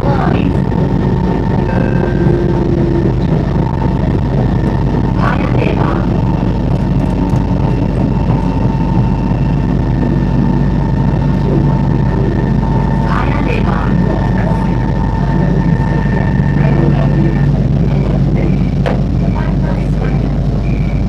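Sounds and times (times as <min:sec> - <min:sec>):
thin whine of drive equipment: 0:00.0 - 0:21.0
train low rumble: 0:00.0 - 0:21.0.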